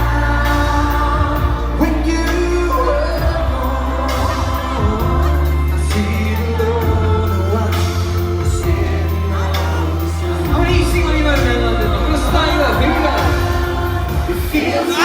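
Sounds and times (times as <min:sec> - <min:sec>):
live pop band playing: 0:00.0 - 0:15.0
men singing: 0:00.0 - 0:15.0.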